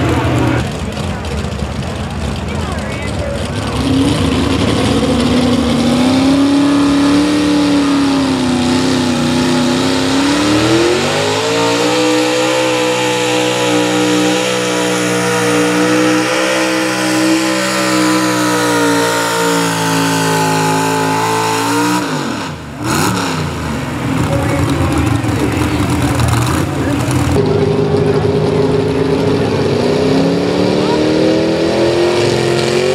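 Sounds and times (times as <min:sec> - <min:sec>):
truck engine at high revs: 0:00.0 - 0:32.9.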